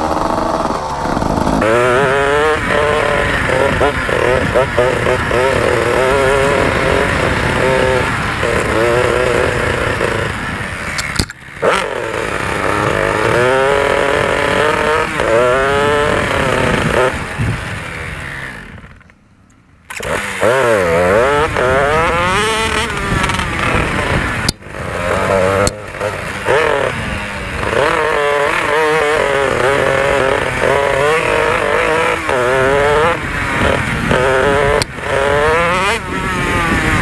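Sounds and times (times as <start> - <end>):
dirt bike engine revving: 0.0 - 19.1, 19.9 - 37.0.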